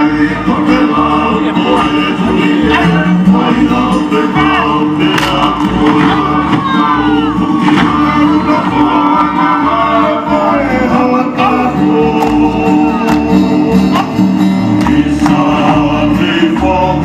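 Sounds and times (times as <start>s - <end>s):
group singing: 0.0s - 17.0s.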